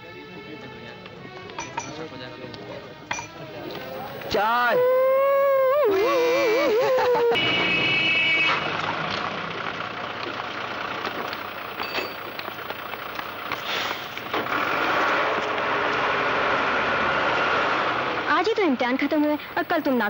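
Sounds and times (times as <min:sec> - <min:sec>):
street traffic: 0:00.0 - 0:20.0
bus engine idling: 0:03.4 - 0:20.0.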